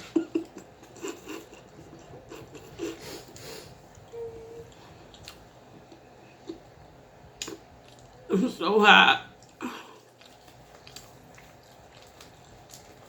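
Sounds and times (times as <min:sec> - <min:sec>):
close eating noises: 0:00.0 - 0:13.0
steady hum: 0:00.0 - 0:13.0.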